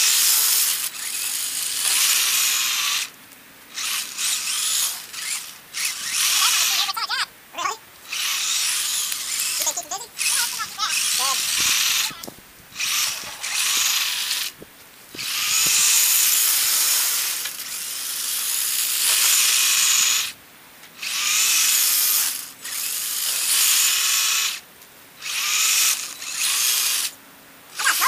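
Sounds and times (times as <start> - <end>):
toy truck motor whining: 0.0 - 14.6, 15.2 - 20.4, 21.0 - 24.6, 25.2 - 28.0.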